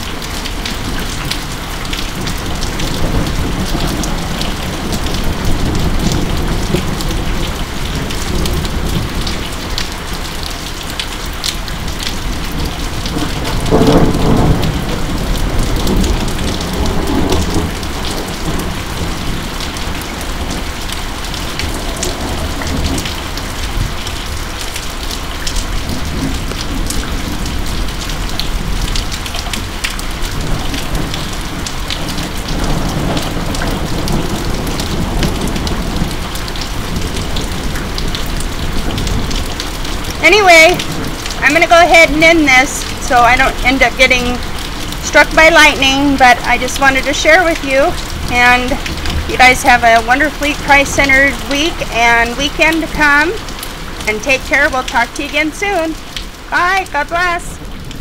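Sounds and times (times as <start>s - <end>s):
thunder rumble: 0.0s - 10.4s, 11.3s - 24.5s, 25.6s - 56.1s
heavy rain: 0.0s - 58.0s
raindrop clicks: 0.0s - 58.0s.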